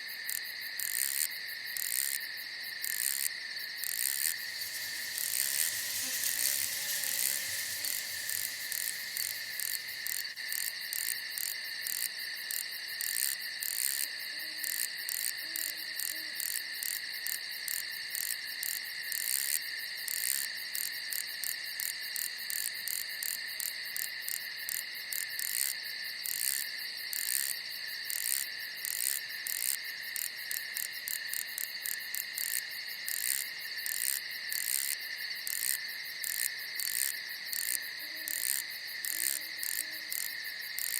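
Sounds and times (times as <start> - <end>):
crickets chirping: 0.0 - 40.9
insects trilling: 0.0 - 40.9.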